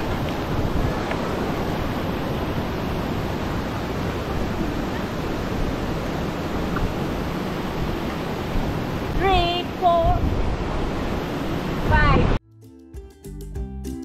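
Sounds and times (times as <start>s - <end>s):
running creek water: 0.0s - 12.2s
wind buffeting microphone: 0.0s - 12.4s.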